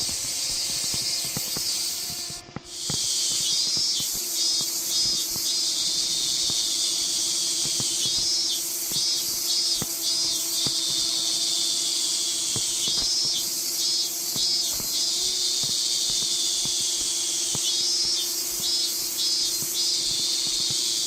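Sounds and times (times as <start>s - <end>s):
shrill insect chorus: 0.0s - 21.0s.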